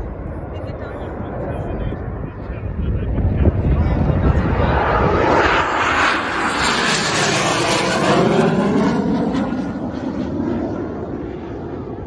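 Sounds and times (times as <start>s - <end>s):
aircraft engine passing: 0.0s - 12.0s.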